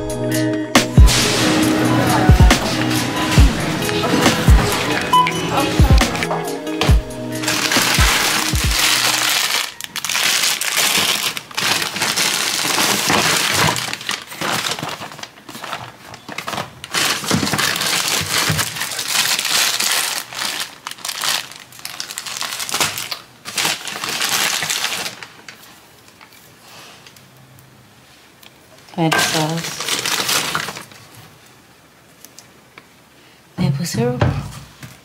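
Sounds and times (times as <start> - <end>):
plastic bags rustling and crinkling: 1.1 - 27.3, 28.1 - 32.4.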